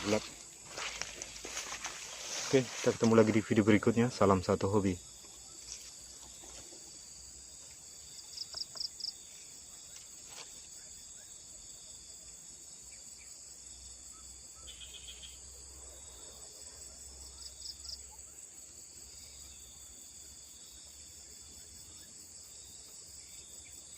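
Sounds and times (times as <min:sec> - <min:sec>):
insects droning: 0:00.0 - 0:23.9
insects pulsed chirps: 0:00.0 - 0:23.9.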